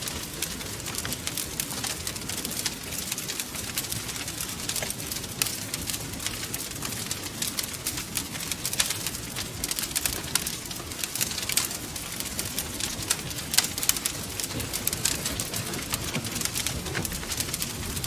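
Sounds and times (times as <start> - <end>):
flames rumbling: 0.0 - 18.0
wood fire crackling and popping: 0.0 - 18.0.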